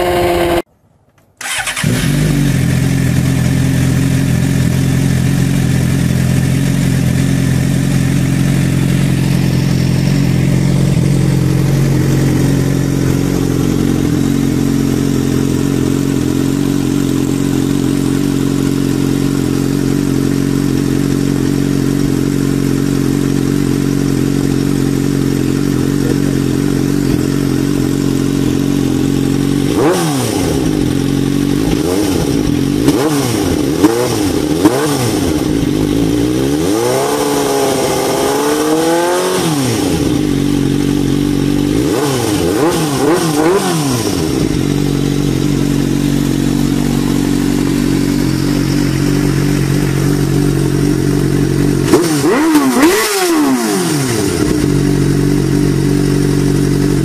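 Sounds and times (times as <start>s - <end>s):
motorcycle engine idling and revving: 0.0s - 0.7s, 1.4s - 57.0s.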